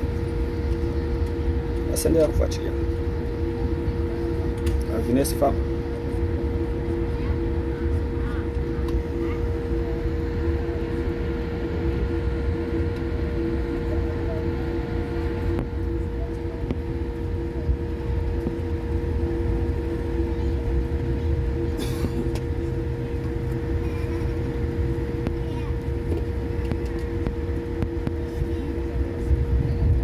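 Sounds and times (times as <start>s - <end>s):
airliner cabin engine drone: 0.0s - 30.0s.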